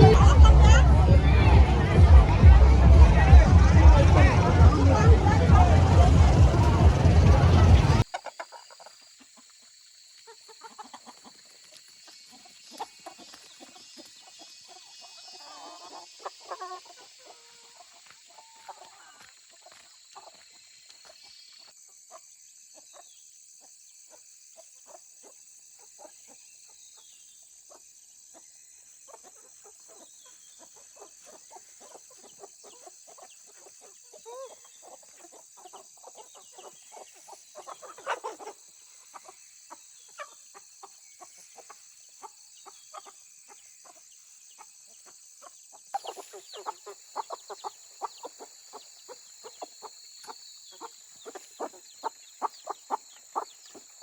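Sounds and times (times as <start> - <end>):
chickens clucking: 0.0 - 9.5, 10.6 - 11.5, 12.3 - 20.4, 29.1 - 54.0.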